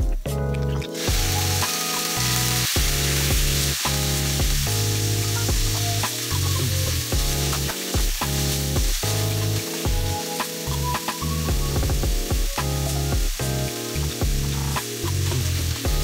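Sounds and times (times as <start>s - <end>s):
background music: 0.0s - 16.0s
liver sizzling in hot oil: 1.0s - 16.0s.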